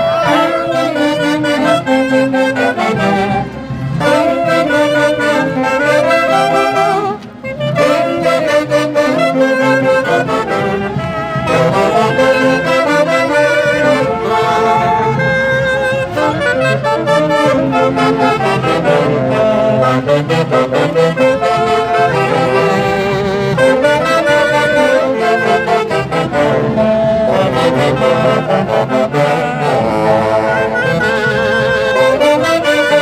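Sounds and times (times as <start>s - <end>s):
brass band playing lively melody: 0.0s - 33.0s.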